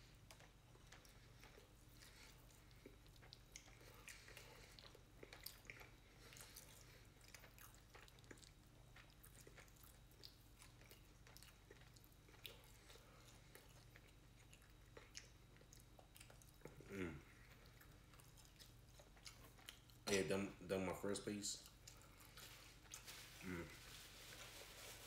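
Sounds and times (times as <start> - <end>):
person chewing: 0.0 - 20.0, 21.6 - 25.0
low steady hum: 0.0 - 25.0.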